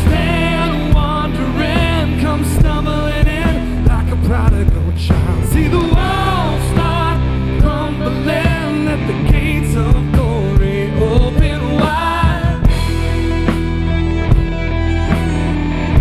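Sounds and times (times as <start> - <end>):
rock band music with singer: 0.0 - 16.0.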